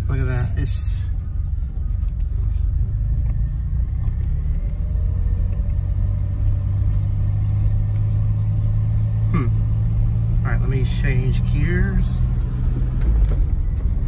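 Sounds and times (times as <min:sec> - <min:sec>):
car engine rumbling: 0:00.0 - 0:14.0
road noise: 0:00.0 - 0:14.0.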